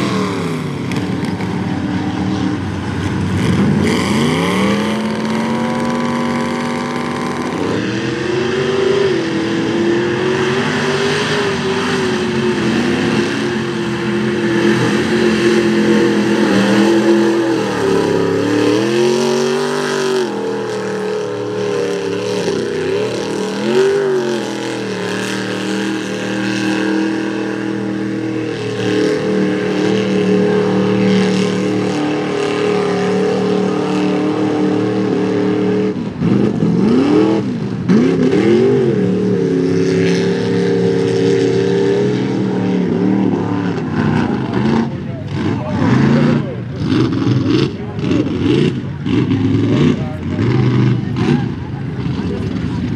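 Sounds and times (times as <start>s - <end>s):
truck engine at high revs: 0.0s - 52.9s.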